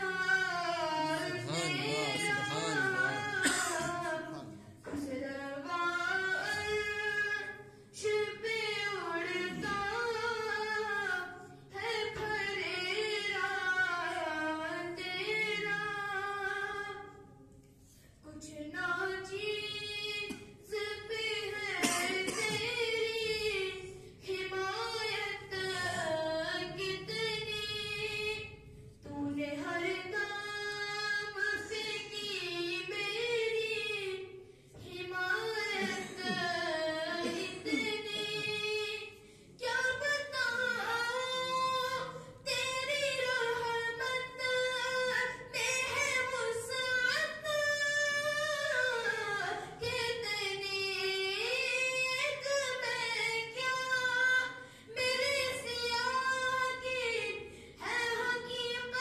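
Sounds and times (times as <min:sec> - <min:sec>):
child singing into a microphone: 0:00.0 - 0:17.2, 0:18.3 - 0:59.0.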